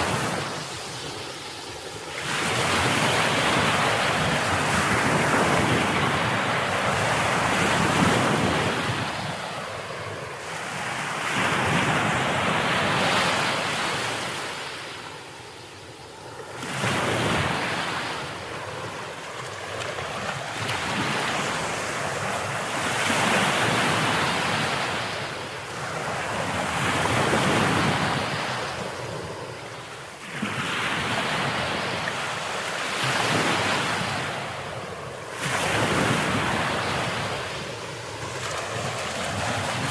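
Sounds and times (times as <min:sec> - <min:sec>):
ocean waves breaking: 0:00.0 - 0:15.5, 0:16.1 - 0:39.9.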